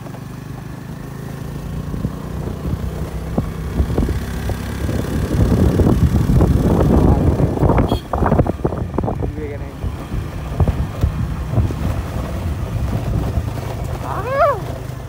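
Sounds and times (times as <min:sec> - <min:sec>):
motorcycle engine hum: 0:00.0 - 0:15.0
wind buffeting microphone: 0:01.8 - 0:14.8.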